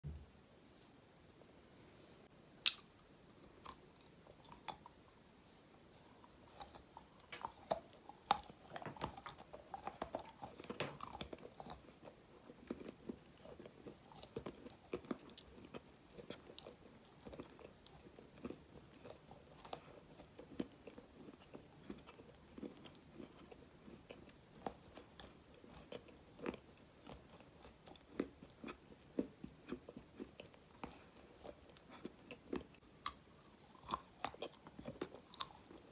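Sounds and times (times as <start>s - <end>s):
clay being chewed crunching: 2.6s - 5.0s, 6.0s - 35.9s.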